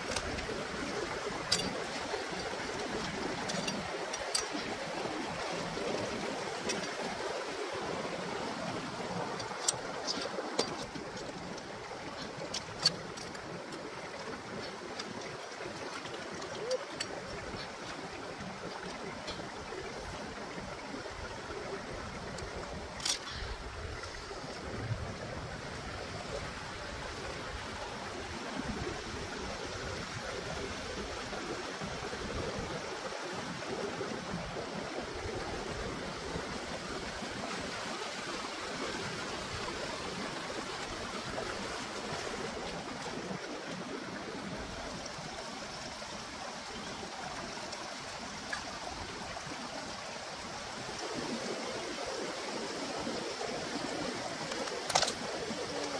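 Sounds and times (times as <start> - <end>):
stream flowing over rocks: 0.0 - 55.9.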